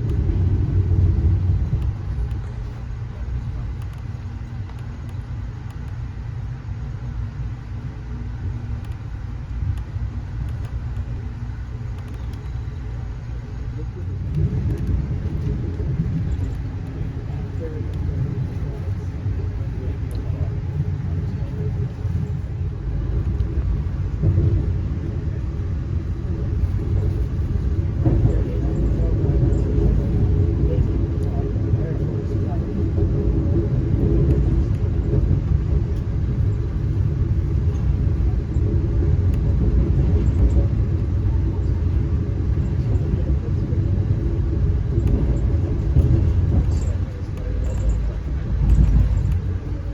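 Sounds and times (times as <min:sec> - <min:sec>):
train wheels rumbling: 0:00.0 - 0:49.9.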